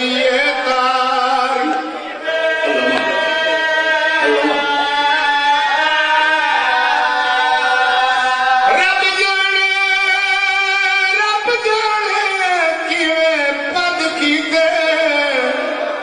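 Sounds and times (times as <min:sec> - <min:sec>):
man chanting religious recitation: 0:00.0 - 0:02.0, 0:02.6 - 0:06.6, 0:08.2 - 0:16.0.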